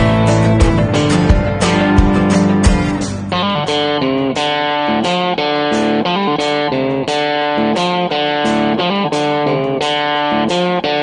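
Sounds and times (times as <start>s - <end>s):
guitar playing: 0.0s - 11.0s.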